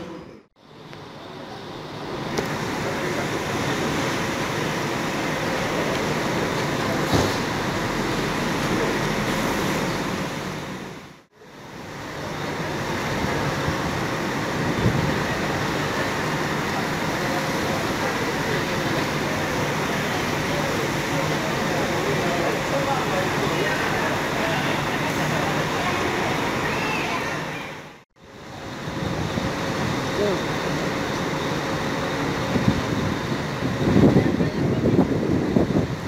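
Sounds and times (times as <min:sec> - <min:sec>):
coach diesel engines passing: 0:00.0 - 0:36.0
traffic and tyre noise on wet road: 0:00.0 - 0:36.0.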